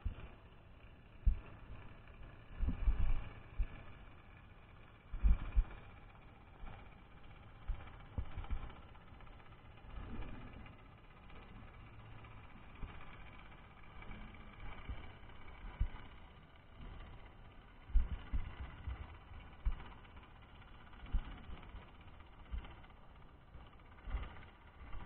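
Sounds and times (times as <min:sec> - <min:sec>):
faint low rumble: 0:00.0 - 0:25.0.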